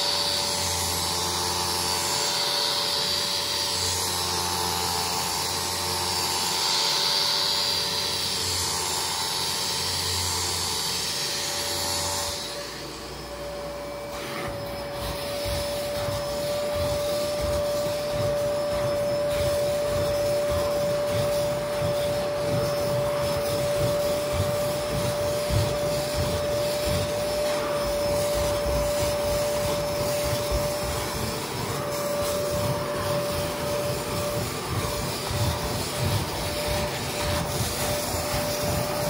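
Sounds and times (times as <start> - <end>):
bristles scrubbing carpet: 0.0 - 39.0
drill-driven brush whining: 0.0 - 39.0
vacuum motor hissing whine: 0.0 - 39.0.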